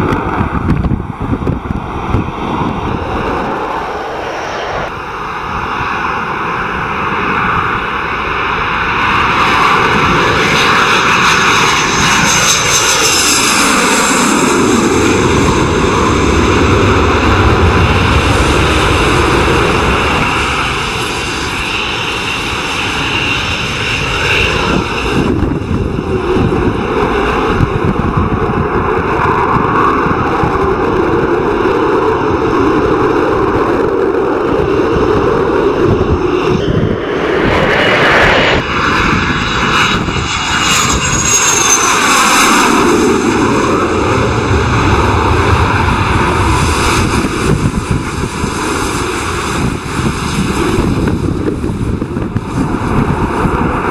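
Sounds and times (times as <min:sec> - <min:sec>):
jet passing: 0:00.0 - 0:53.9.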